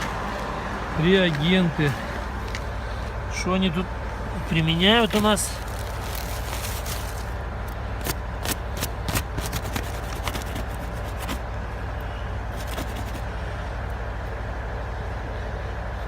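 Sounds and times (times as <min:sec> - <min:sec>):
drilling rig machinery drone: 0:00.0 - 0:16.0.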